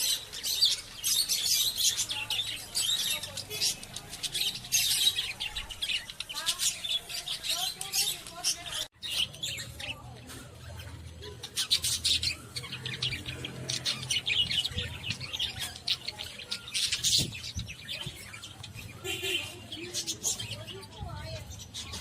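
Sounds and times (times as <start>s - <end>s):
parrots chirping and squawking: 0.0s - 22.0s.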